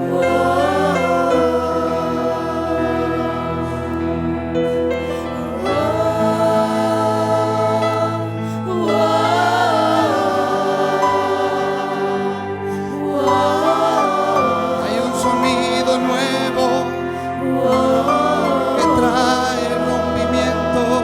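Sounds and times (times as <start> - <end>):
sustained musical accompaniment: 0.0 - 21.0
voices singing together: 0.0 - 21.0.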